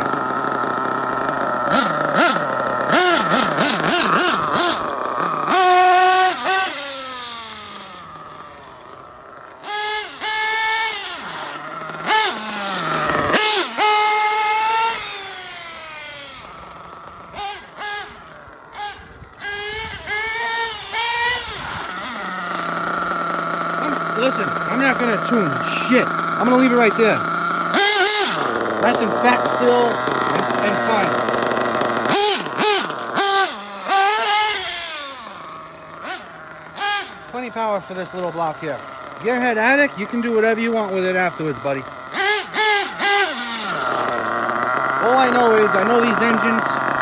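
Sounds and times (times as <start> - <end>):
small nitro engine revving: 0.0 - 47.0.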